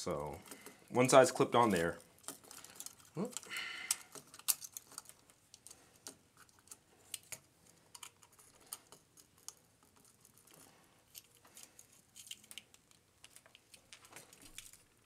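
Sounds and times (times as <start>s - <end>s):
plastic parts clicking: 0.3s - 0.9s, 1.6s - 15.0s.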